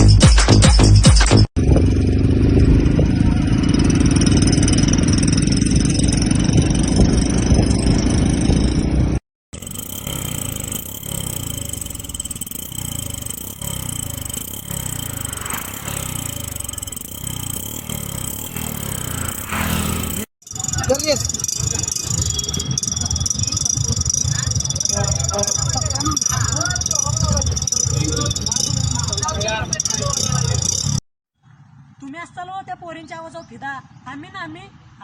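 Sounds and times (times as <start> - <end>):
motorcycle engine revving: 1.5 - 31.0
motorcycle engine running: 1.5 - 31.0.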